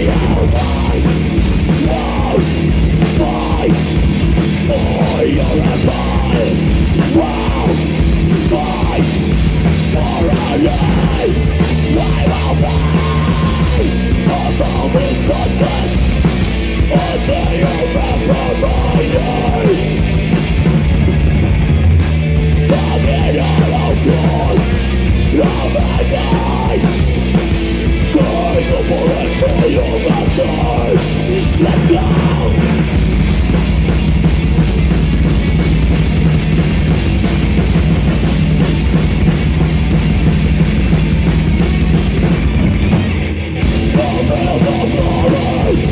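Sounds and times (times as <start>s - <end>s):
heavy rock band playing live: 0.0s - 45.9s
yelled vocals: 0.0s - 45.9s.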